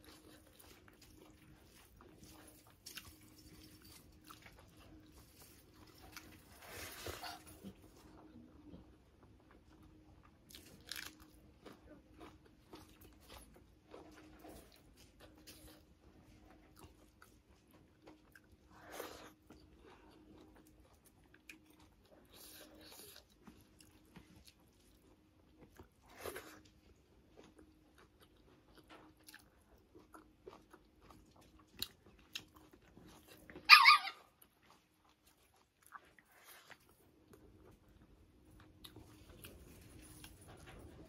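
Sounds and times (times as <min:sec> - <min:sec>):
faint steady hum: 0:00.0 - 0:41.0
person chewing soft food: 0:00.0 - 0:41.0.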